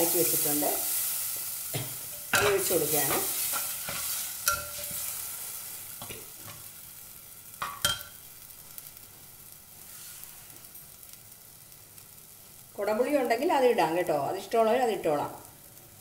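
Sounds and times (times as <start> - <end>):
liquid sizzling in hot pot: 0.0 - 16.0.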